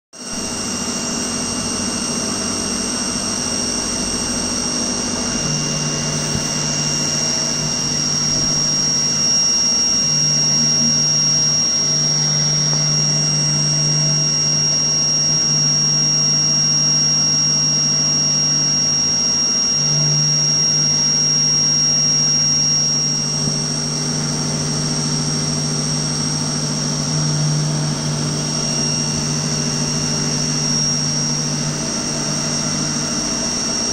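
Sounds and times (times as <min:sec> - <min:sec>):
lathe high-pitched whine: 0:00.2 - 0:33.9
low machine hum: 0:00.2 - 0:33.9.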